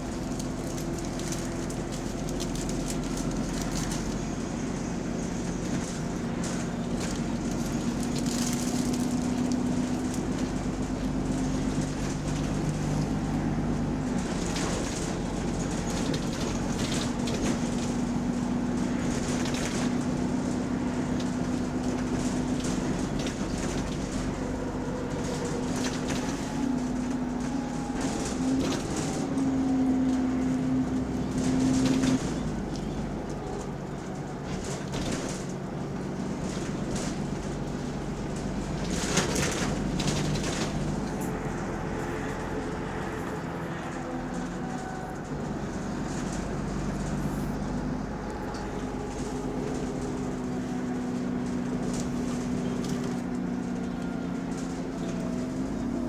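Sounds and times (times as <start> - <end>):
diesel bus engine drone: 0.0 - 56.0.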